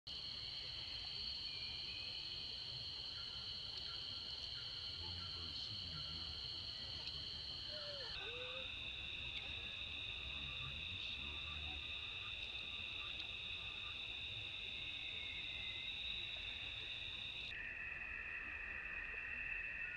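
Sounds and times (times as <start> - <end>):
insects droning: 0.1 - 19.9.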